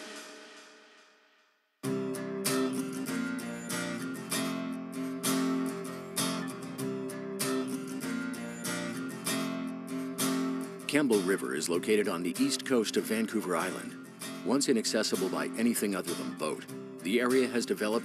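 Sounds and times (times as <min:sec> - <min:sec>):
strummed guitar music: 0:01.8 - 0:18.0.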